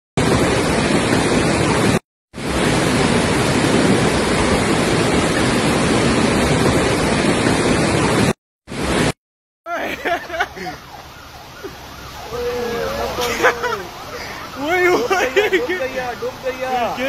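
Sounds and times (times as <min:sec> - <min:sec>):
floodwater rushing down a street: 0:00.2 - 0:17.0.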